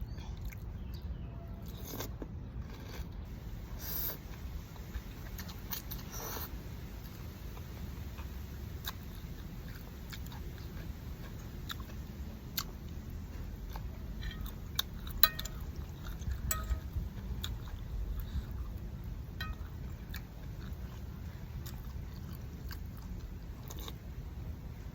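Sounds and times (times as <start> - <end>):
person chewing: 1.6 - 24.1
steady low hum: 3.2 - 24.9.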